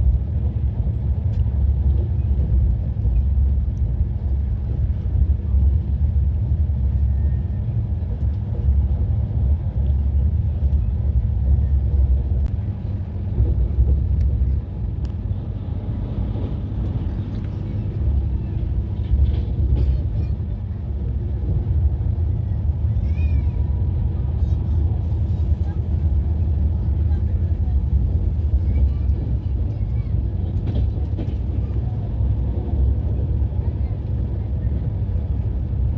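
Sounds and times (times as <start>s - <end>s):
passenger train rumbling on track: 0.0s - 35.9s.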